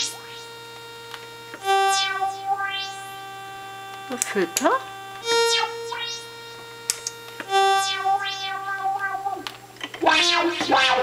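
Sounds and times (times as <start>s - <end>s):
analog synthesizer filter sweeps: 0.0s - 11.0s.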